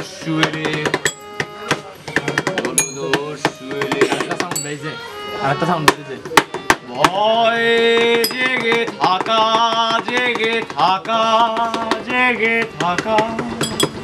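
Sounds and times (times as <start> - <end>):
sharp knocks: 0.4 - 4.8, 5.8 - 7.2, 7.8 - 14.0.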